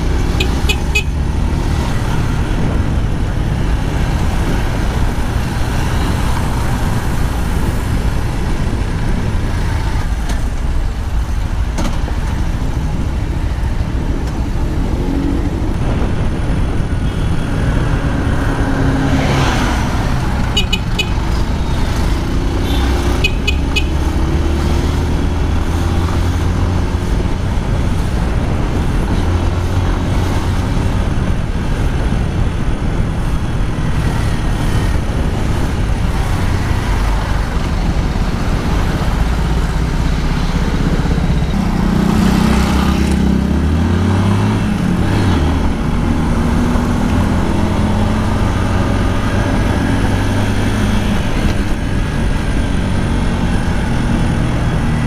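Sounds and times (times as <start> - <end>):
motorcycle engine revving: 0.0 - 55.0
traffic road noise: 0.0 - 55.0.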